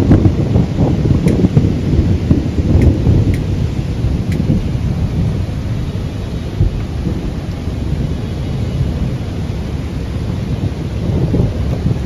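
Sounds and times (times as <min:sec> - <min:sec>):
deep continuous rumble: 0:00.0 - 0:12.0
heavy rain pouring: 0:00.0 - 0:12.0.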